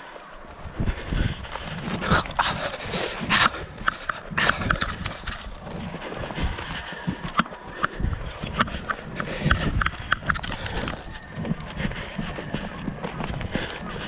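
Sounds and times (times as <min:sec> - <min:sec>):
footsteps through scrub: 0:00.0 - 0:14.0.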